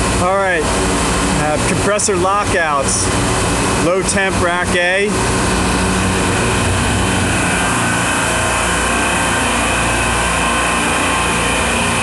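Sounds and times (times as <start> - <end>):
refrigeration compressors droning: 0.0 - 12.0.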